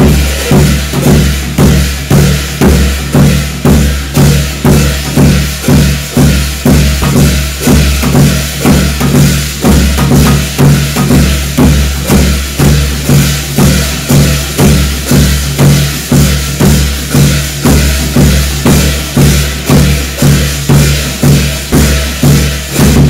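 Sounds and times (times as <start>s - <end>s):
heavy drum strikes: 0.0s - 23.0s.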